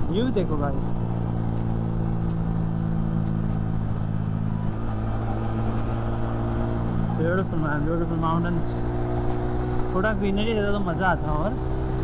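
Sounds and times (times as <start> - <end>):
motorcycle engine cruising: 0.0 - 12.0
road noise rushing: 0.0 - 12.0.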